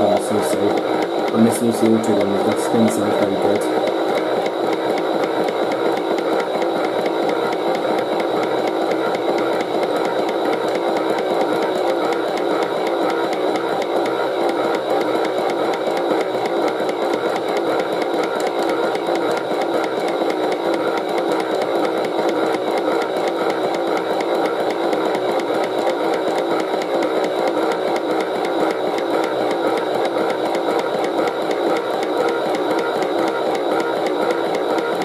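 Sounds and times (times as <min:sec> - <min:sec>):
toy washing machine motor spinning: 0:00.0 - 0:35.0.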